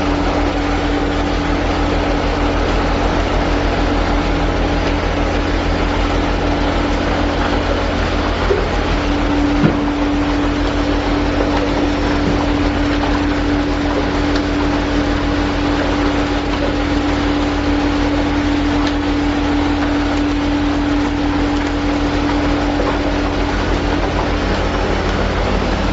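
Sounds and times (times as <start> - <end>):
factory din: 0.0 - 25.9
machine hum with constant tone: 0.0 - 25.9.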